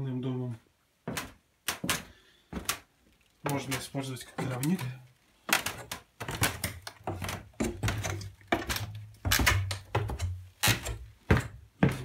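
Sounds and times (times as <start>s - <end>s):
footsteps walking: 1.0s - 12.0s.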